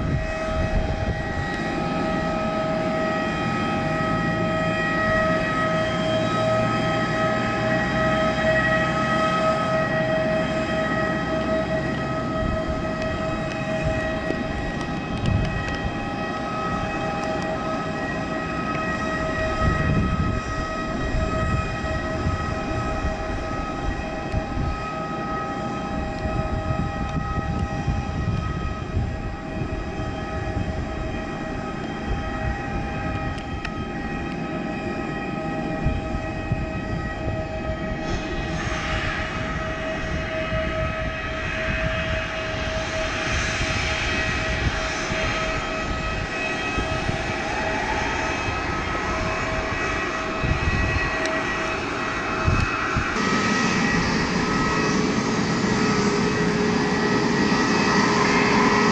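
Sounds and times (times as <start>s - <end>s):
jet engines whining: 0.0s - 58.9s
wind noise: 0.0s - 58.9s.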